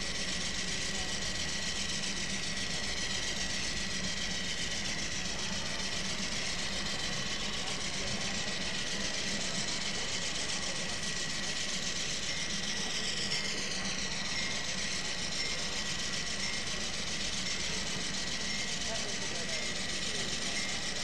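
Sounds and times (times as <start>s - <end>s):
thin high whine: 0.0s - 21.0s.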